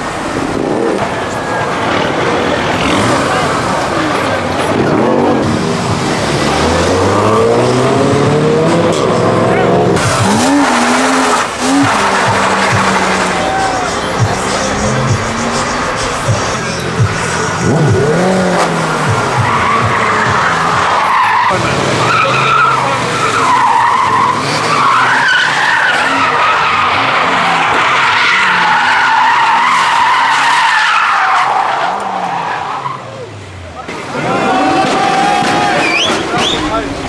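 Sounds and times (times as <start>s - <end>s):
car engine revving: 0.0s - 37.0s
tyres squealing: 0.8s - 37.0s.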